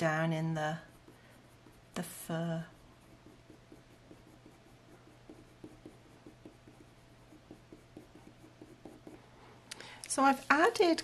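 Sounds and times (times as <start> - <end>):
pencil scratching on paper: 0.0 - 9.3.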